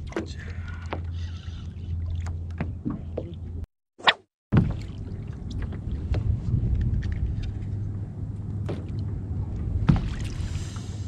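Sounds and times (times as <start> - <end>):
water rumbling: 0.0 - 3.7, 4.5 - 11.0
wind: 0.0 - 11.0.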